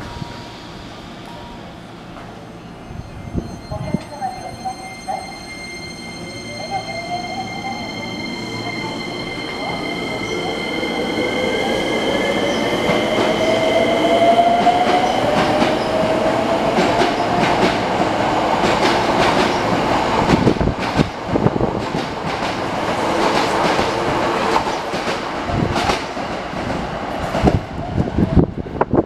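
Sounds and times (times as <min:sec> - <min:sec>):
train wheels rumbling: 0:05.1 - 0:29.0.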